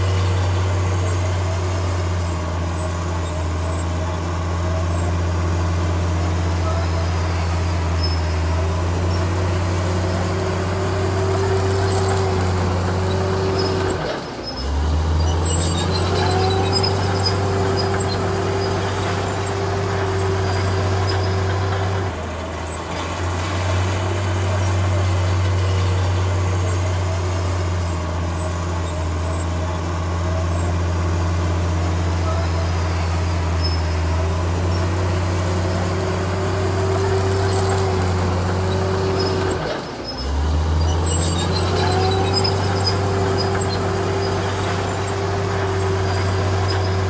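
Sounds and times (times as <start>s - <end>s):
heavy diesel engine droning: 0.0s - 47.0s.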